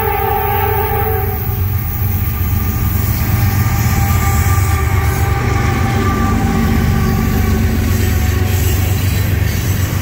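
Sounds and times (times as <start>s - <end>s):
locomotive engine rumble: 0.0s - 10.0s
wheel-on-rail noise: 0.0s - 10.0s.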